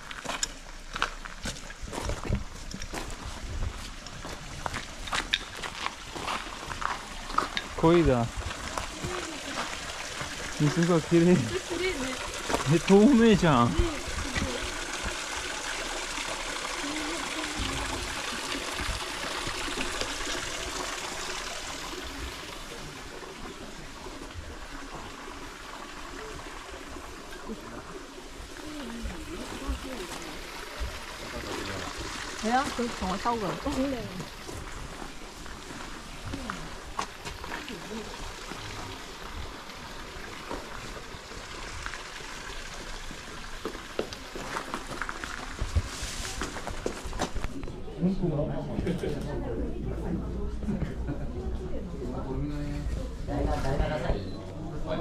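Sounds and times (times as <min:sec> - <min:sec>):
water trickling in a stream: 0:00.0 - 0:48.4.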